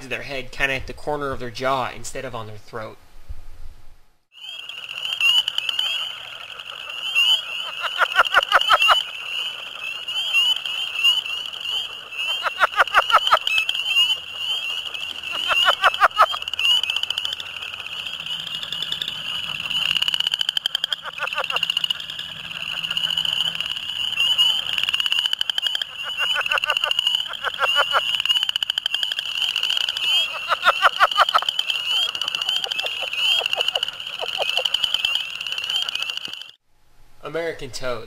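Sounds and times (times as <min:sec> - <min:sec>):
frog clucking calls: 0:04.4 - 0:36.6
high-pitched frog trilling chorus: 0:04.4 - 0:36.6.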